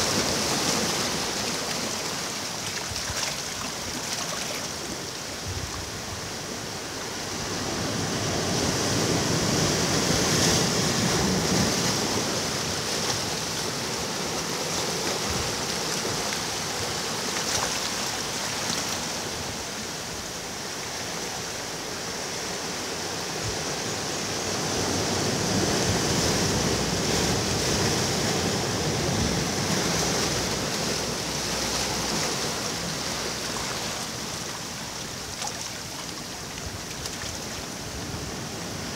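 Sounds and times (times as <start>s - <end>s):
ocean surf washing ashore: 0.0s - 38.9s.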